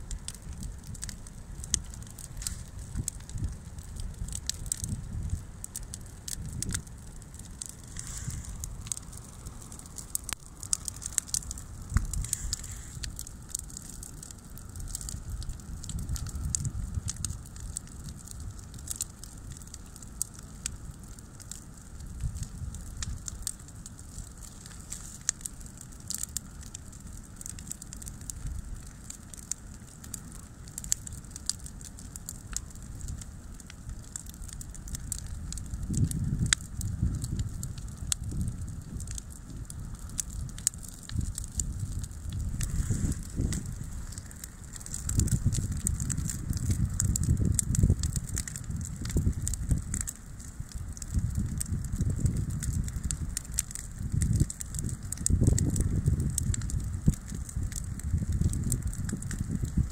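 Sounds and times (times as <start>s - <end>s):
low uneven rumble: 0.0s - 30.7s, 32.6s - 59.9s
bonfire crackling and popping: 0.0s - 59.9s.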